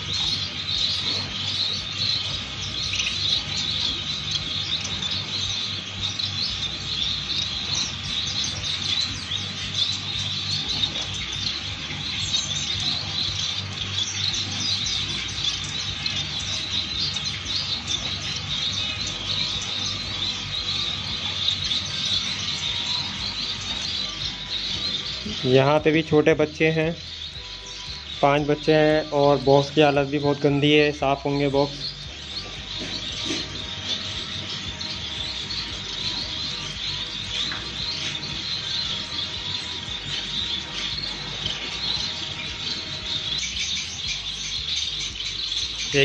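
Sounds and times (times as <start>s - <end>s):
finches chirping: 0.0s - 46.0s.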